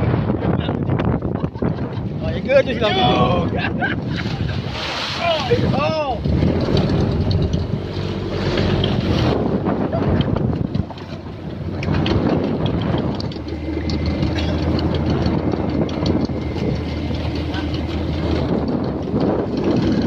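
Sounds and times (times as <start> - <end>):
boat engine running: 0.0 - 20.0
wind buffeting microphone: 0.0 - 20.0.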